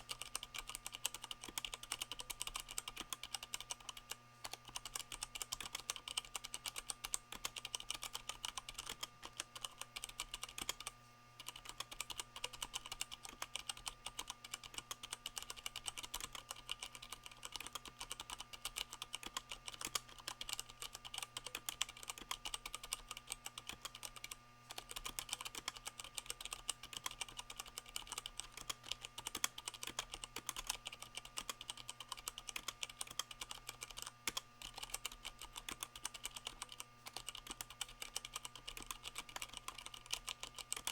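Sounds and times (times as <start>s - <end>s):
faint steady hum: 0.0s - 40.9s
fast mechanical keyboard typing: 0.0s - 40.9s.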